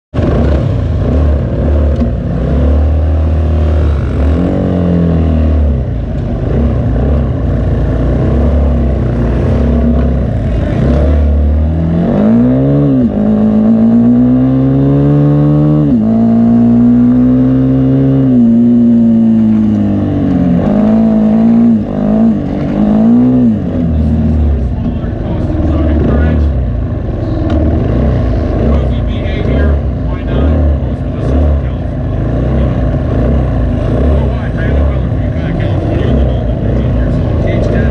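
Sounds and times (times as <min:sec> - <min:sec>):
racing engine rumbling and revving: 0:00.1 - 0:37.9.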